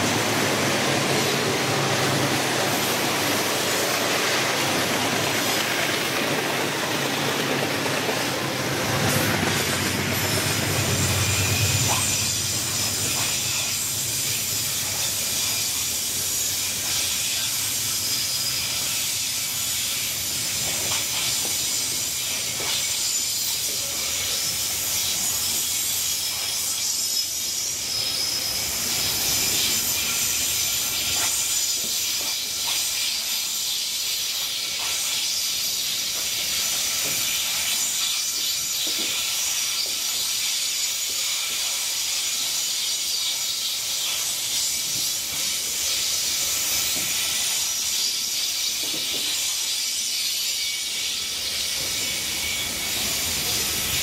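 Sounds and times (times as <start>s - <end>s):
steel wheels hissing on rail: 0.0s - 54.0s.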